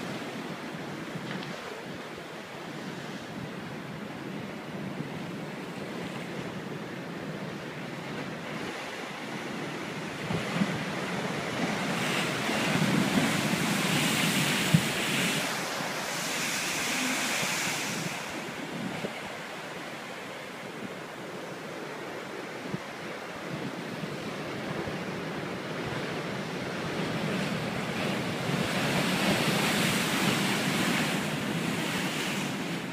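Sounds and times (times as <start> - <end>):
ocean waves breaking on rocks: 0.0 - 32.9.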